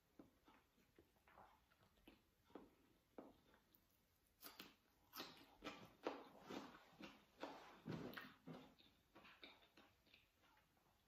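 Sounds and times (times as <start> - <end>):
chewing crisp cucumber: 0.0 - 11.0.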